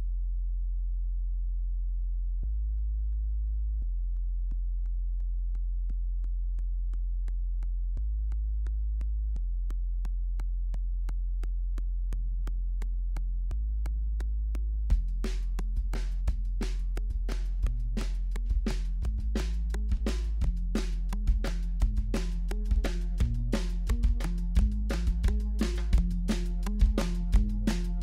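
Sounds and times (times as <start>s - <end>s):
deep synthesizer bass drone: 0.0s - 18.1s, 18.8s - 28.0s.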